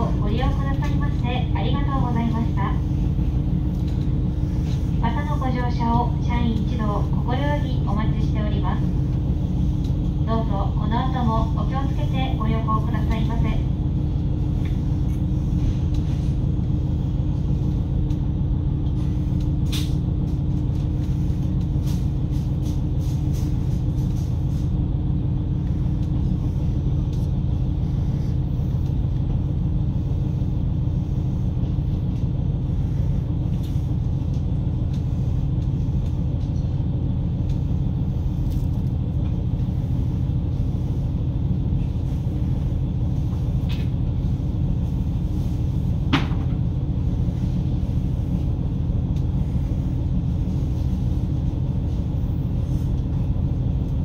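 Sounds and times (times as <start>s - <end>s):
railcar engine and wheels rumbling: 0.0s - 54.0s
steady hum: 0.0s - 54.0s.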